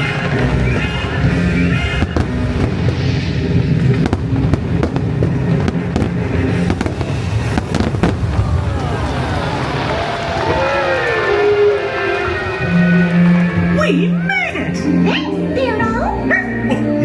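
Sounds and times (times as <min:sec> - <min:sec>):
fireworks cracking and banging: 0:00.0 - 0:13.6
show soundtrack music: 0:00.0 - 0:17.0.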